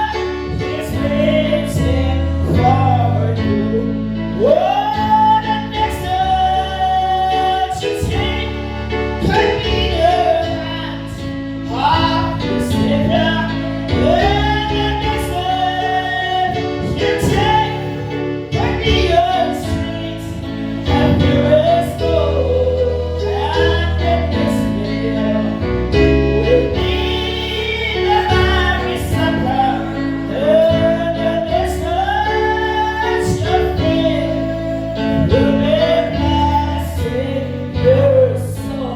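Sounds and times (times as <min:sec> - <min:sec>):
instrumental accompaniment with bass: 0:00.0 - 0:38.9
woman singing gospel: 0:00.0 - 0:38.9.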